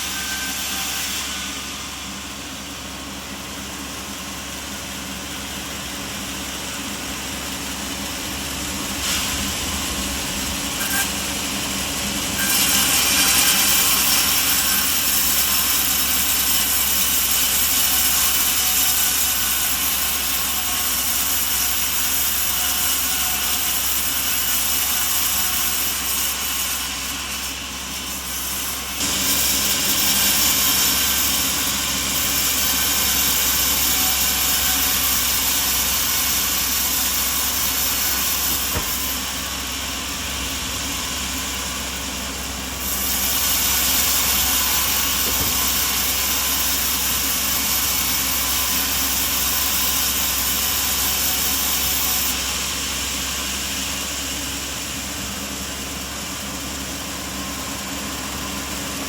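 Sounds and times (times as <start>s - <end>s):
saw cutting through log: 0.0s - 59.0s
sawmill engine hum: 0.0s - 59.0s.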